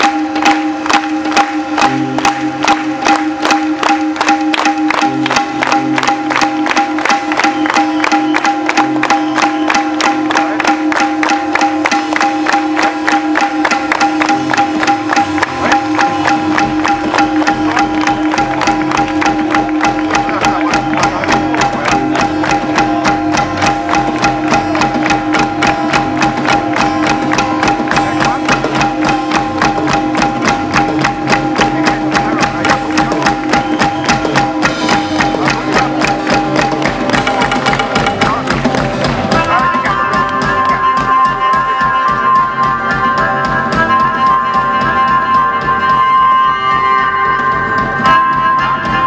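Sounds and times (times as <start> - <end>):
fast percussive beat: 0.0 - 49.0
held instrumental notes: 0.0 - 49.0.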